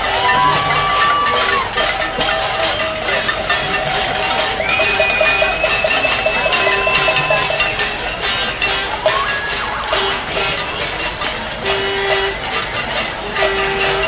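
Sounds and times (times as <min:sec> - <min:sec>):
crowd banging metal: 0:00.0 - 0:14.0.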